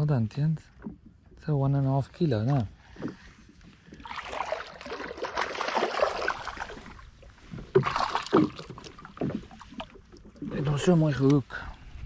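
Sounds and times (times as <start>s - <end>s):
water splashing: 0.8s - 11.8s.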